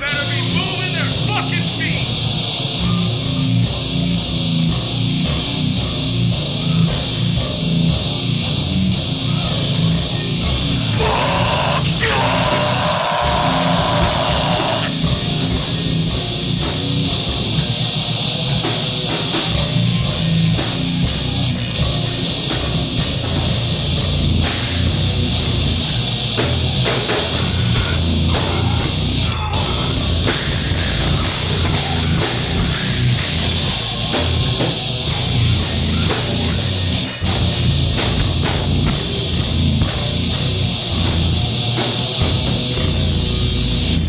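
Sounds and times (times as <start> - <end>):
heavy rock band playing: 0.0 - 44.0.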